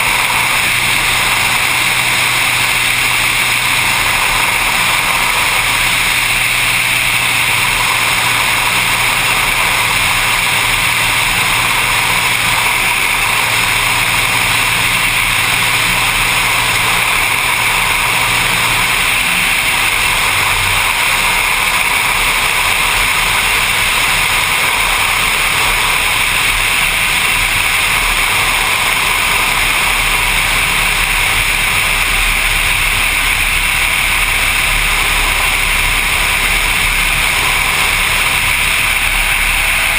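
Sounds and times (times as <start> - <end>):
low hum: 0.0 - 39.9
plane engine and propeller drone: 0.0 - 39.9.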